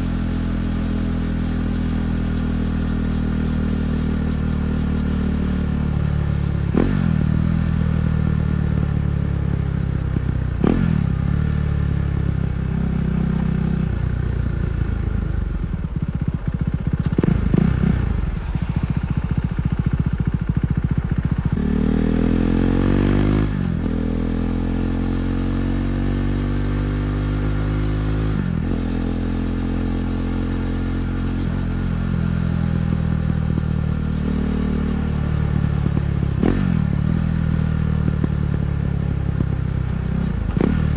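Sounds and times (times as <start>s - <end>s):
motorcycle engine riding in traffic: 0.0s - 40.9s.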